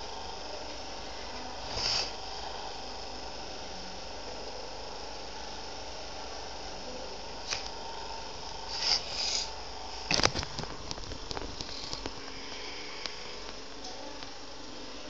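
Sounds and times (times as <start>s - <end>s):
faint hiss and hum: 0.0s - 15.0s.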